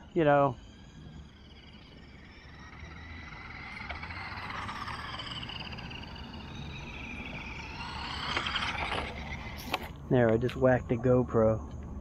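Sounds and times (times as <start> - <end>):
toy car motor whining: 0.0 - 10.6.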